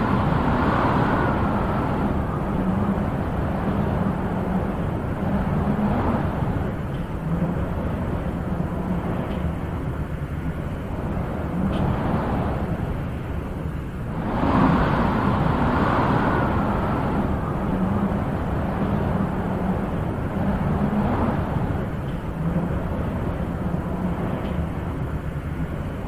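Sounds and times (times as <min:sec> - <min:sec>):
wind blowing in gusts: 0:00.0 - 0:26.0.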